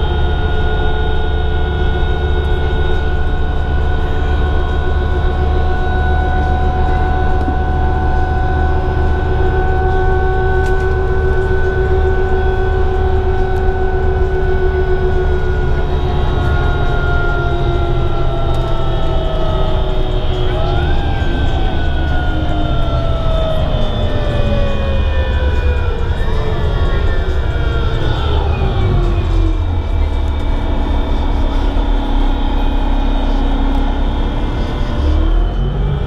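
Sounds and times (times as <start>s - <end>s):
bus engine and road rumble: 0.0s - 36.0s
drivetrain whine: 0.0s - 36.0s.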